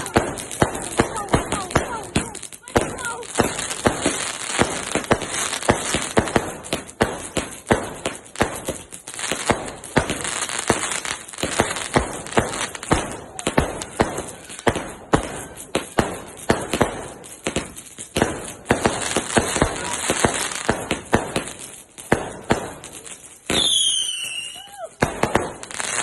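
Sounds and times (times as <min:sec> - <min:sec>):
fireworks and firecrackers banging: 0:00.0 - 0:26.0.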